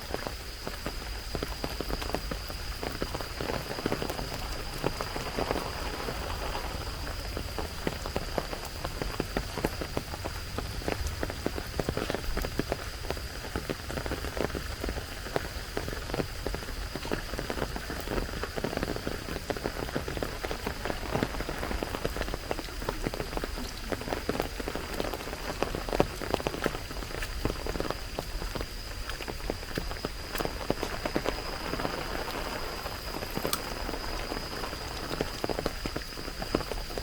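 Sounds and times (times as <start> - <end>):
rain falling: 0.0 - 37.0.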